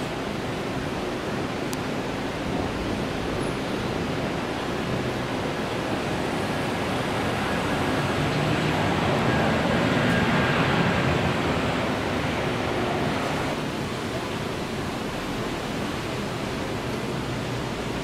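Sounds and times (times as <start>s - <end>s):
jet engine roar: 0.0s - 16.4s.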